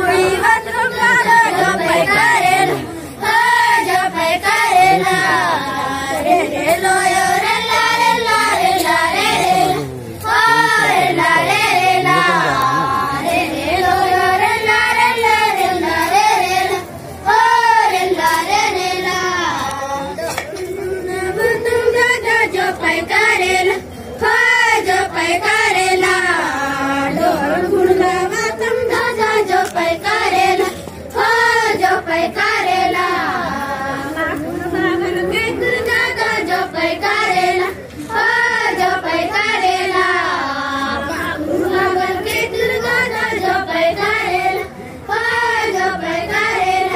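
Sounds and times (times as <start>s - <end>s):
girls singing in unison: 0.0s - 46.9s.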